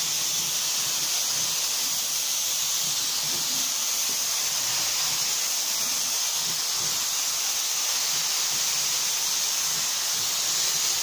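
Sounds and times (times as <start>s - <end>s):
spray gun hissing: 0.0s - 11.0s.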